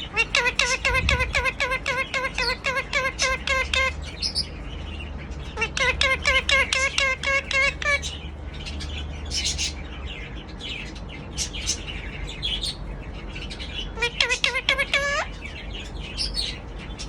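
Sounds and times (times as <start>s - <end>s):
parrot chirping and tweeting: 0.0s - 17.0s
parrot pitched calls: 0.0s - 17.0s.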